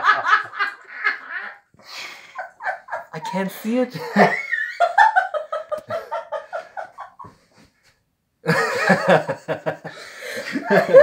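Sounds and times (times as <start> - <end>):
people laughing: 0.0 - 7.5, 8.5 - 11.0.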